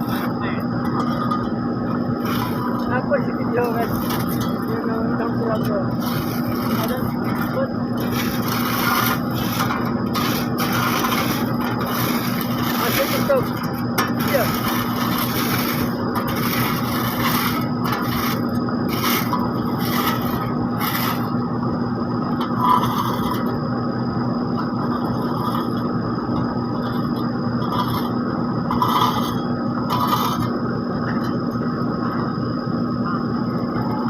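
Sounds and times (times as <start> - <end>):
metal scraping over asphalt: 0.0 - 23.8, 24.4 - 32.3
paving machinery engine hum: 0.0 - 34.0.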